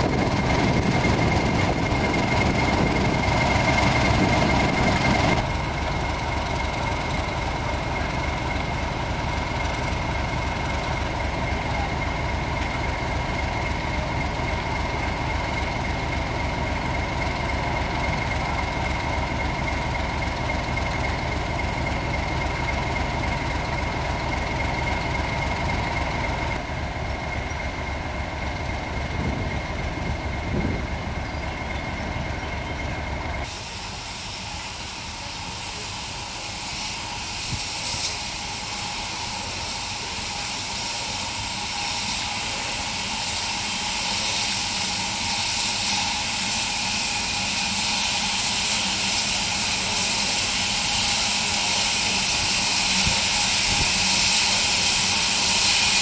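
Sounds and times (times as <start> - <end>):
train running rumble with whine: 0.0 - 56.0.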